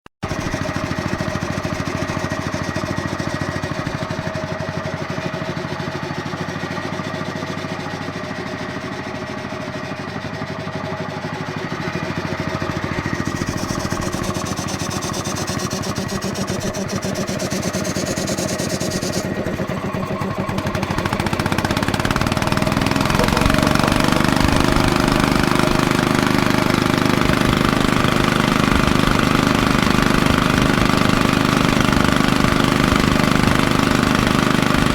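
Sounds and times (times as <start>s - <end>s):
diesel compressor engine knocking: 0.2s - 34.9s.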